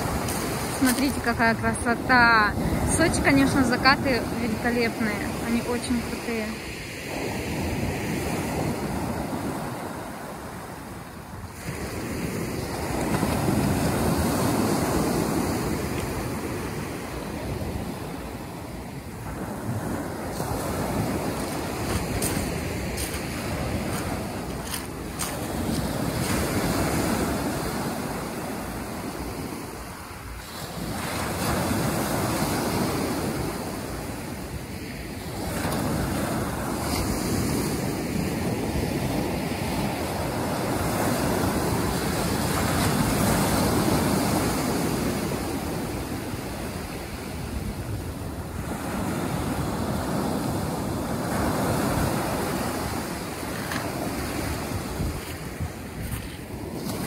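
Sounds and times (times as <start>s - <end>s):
waves washing over pebbles: 0.0s - 57.0s.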